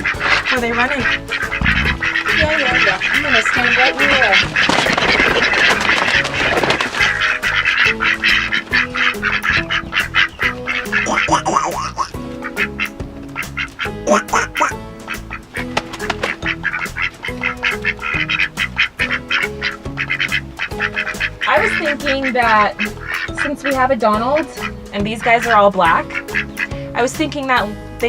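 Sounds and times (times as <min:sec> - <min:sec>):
ducks quacking: 0:00.0 - 0:27.7
background music: 0:00.0 - 0:28.0.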